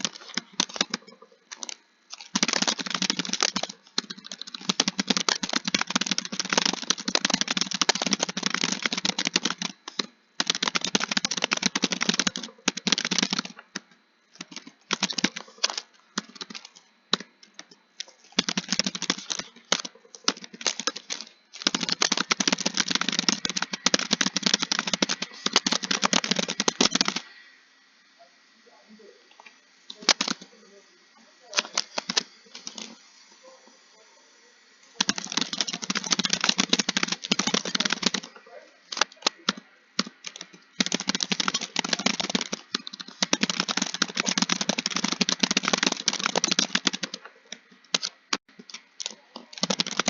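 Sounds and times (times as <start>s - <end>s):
fast typing on keyboard: 0.0s - 27.4s, 29.9s - 30.5s, 31.6s - 33.0s, 35.0s - 50.0s.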